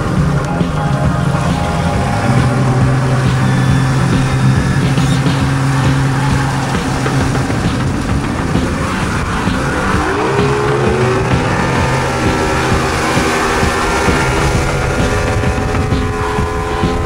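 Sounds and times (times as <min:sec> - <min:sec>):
outboard motor running hard: 0:00.0 - 0:17.0
rushing boat wake: 0:00.0 - 0:17.0.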